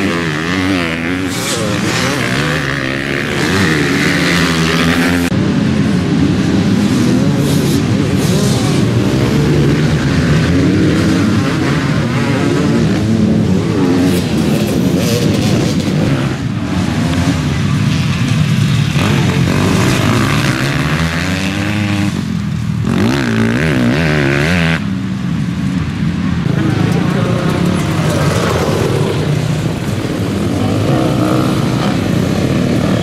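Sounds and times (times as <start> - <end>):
dirt bikes revving past: 0.0 - 33.0.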